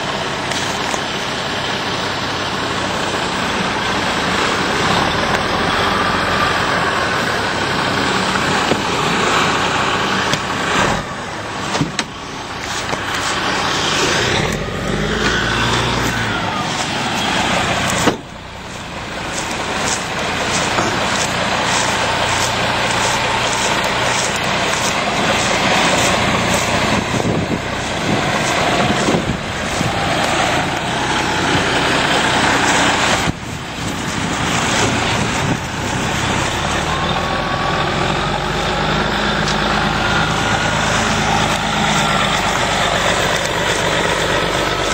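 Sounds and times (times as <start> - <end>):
heavy vehicle engine running: 0.0 - 44.9.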